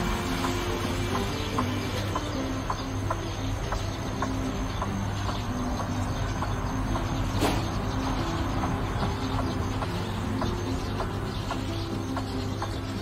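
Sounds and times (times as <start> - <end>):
background music low notes: 0.0 - 13.0
bird clucking calls: 0.0 - 13.0.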